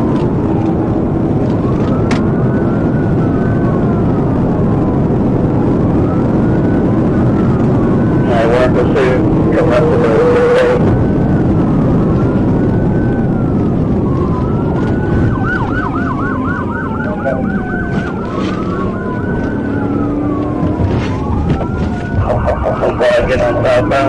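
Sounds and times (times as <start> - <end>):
car engine and road noise: 0.0 - 24.0
police siren wailing and yelping: 0.0 - 24.0.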